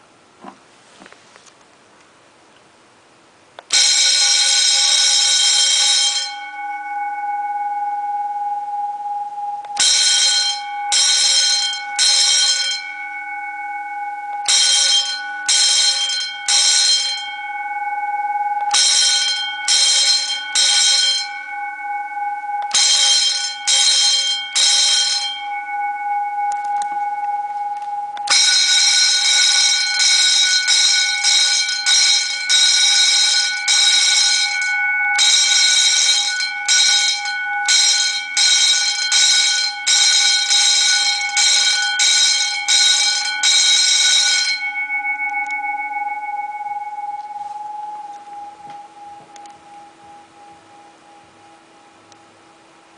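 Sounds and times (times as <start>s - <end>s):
electric alarm bell ringing: 3.7s - 52.2s.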